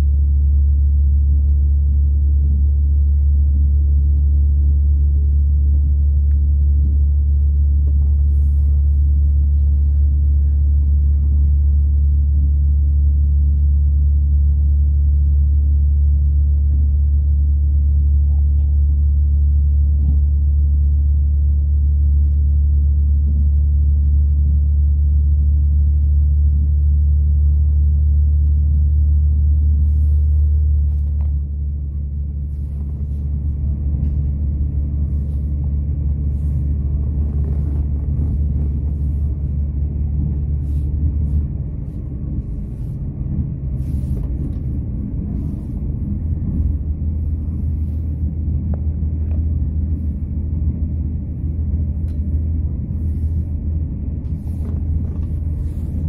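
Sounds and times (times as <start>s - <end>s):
diesel train rumbling: 0.0s - 56.0s.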